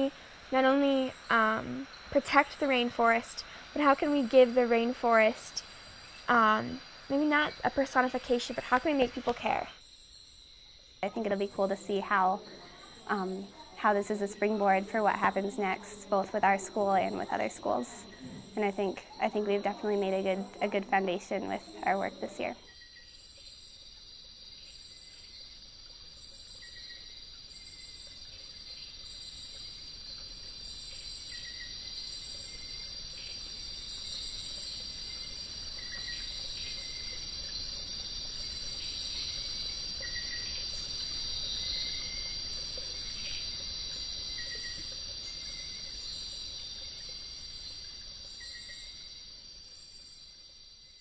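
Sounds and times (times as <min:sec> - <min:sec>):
insects buzzing and chirping: 0:00.0 - 0:51.0.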